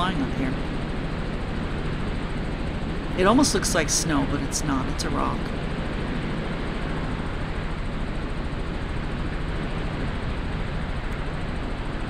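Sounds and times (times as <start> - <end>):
helicopter engine and rotor drone: 0.0 - 12.0
low hum: 0.0 - 12.0.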